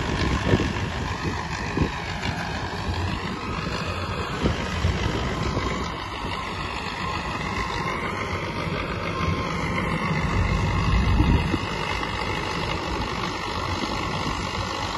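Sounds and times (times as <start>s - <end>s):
tractor engine rumbling under load: 0.0s - 14.9s.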